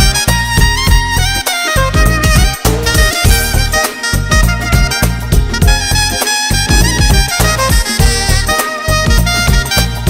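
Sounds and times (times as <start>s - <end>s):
loud music with bass beat: 0.0s - 10.0s.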